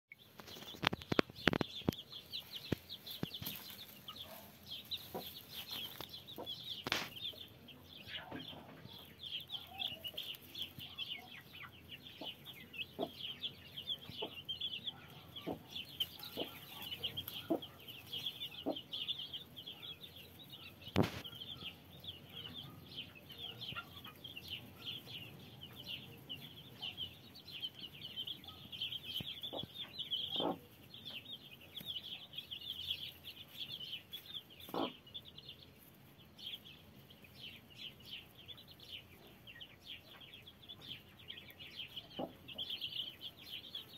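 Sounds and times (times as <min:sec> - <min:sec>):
chicks peeping: 0:00.2 - 0:43.9
hen clucking: 0:00.4 - 0:31.8, 0:34.2 - 0:35.2, 0:40.0 - 0:43.3.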